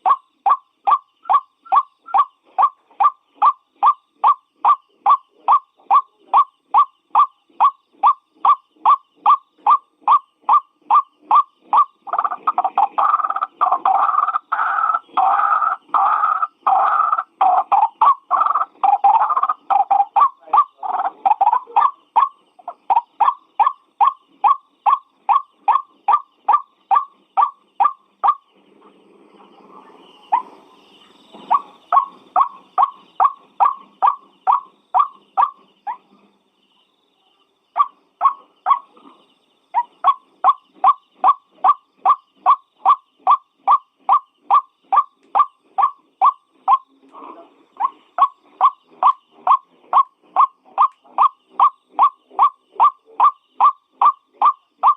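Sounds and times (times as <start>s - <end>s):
bird calling monotonous notes: 0.0s - 54.9s.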